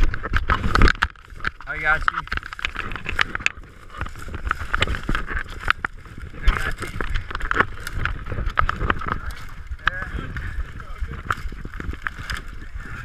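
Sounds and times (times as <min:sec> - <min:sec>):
rubbing rumble on microphone: 0:00.0 - 0:13.0
twigs crackling and snapping: 0:00.0 - 0:13.0.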